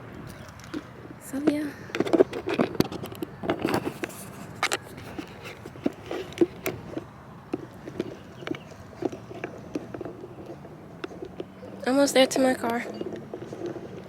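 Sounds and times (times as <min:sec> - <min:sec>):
handling knocks and rubbing: 0:00.3 - 0:14.0.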